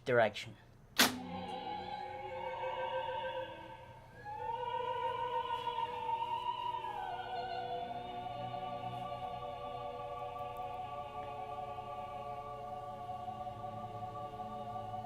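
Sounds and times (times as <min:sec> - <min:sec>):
opera singing over orchestra: 0:01.2 - 0:15.0.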